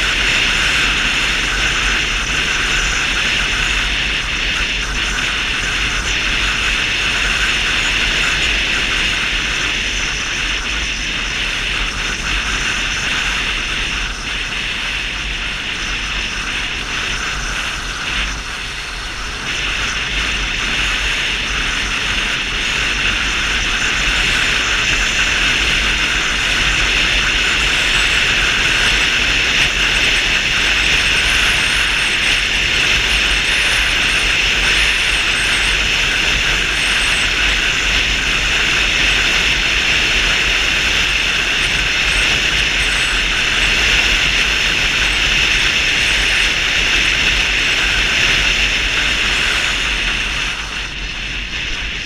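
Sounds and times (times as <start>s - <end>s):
scooter engine running: 0.0s - 52.0s
wind and road noise: 0.0s - 52.0s.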